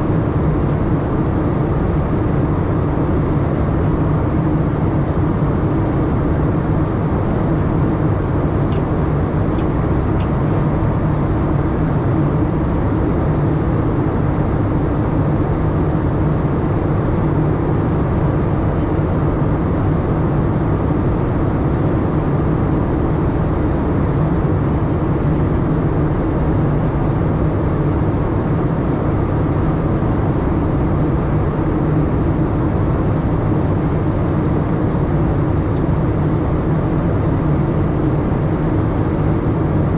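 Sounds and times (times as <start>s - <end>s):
airliner cabin noise: 0.0s - 21.6s, 25.4s - 39.9s.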